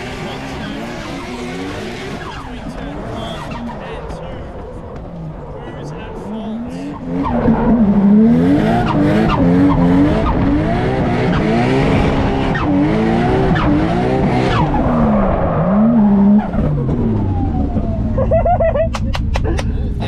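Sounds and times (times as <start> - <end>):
tyres spinning and squealing: 0.0 - 18.1
car engine revving: 0.0 - 20.0.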